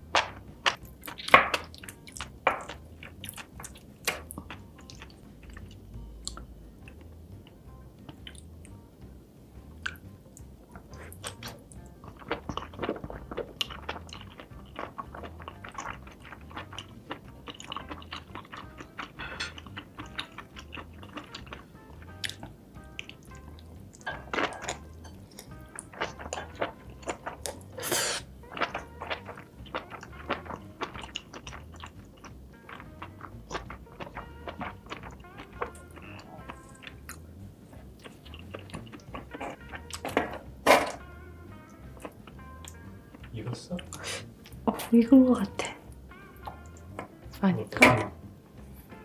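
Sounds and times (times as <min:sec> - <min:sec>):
background music with low beat: 0:00.0 - 0:49.0
wet chewing and mouth smacks: 0:00.1 - 0:08.8, 0:09.8 - 0:40.2, 0:40.9 - 0:44.7, 0:45.4 - 0:47.2.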